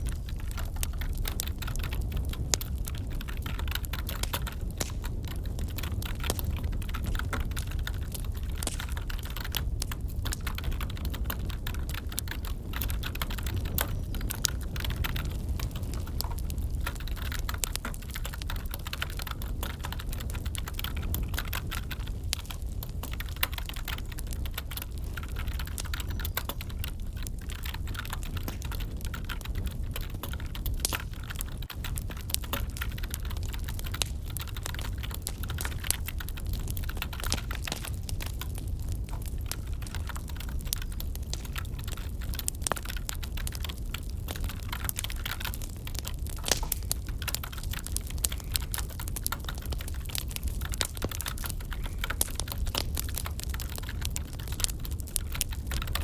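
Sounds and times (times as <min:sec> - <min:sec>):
computer keyboard typing: 0:00.0 - 0:56.0
wood fire crackling: 0:00.0 - 0:56.0.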